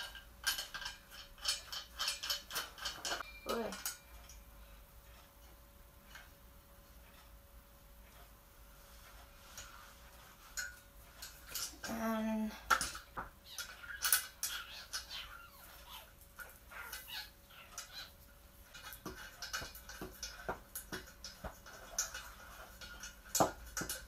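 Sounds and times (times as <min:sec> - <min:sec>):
metal stand tubes clicking and rattling: 0:00.0 - 0:24.0.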